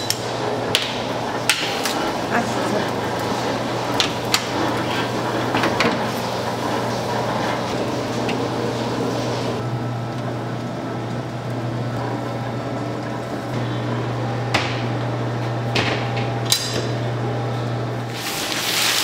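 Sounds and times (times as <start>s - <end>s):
low machine hum: 0.0s - 18.2s.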